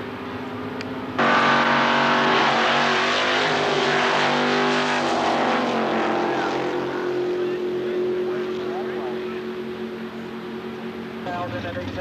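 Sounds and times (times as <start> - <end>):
quieter steady engine: 0.0 - 12.0
racing car engines at full throttle: 0.0 - 12.0.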